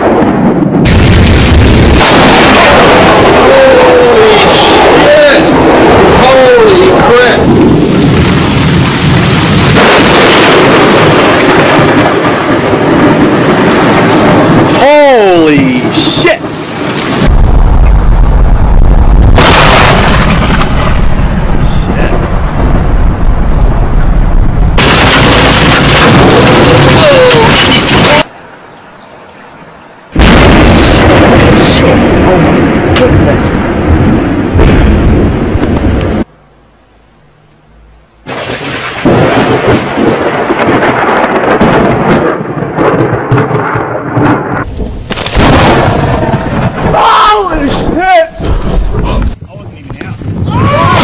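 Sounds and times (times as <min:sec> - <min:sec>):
sharp thunder crack: 0:00.0 - 0:28.3, 0:30.2 - 0:36.3, 0:38.2 - 0:49.4
thunder rumbling: 0:00.0 - 0:28.7, 0:30.0 - 0:36.3, 0:37.8 - 0:51.0.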